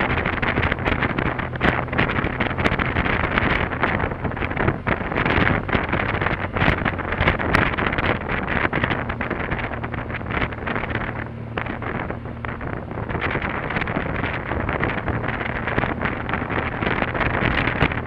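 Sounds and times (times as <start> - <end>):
motorcycle engine droning: 0.0 - 18.0
wind buffeting microphone: 0.0 - 18.0.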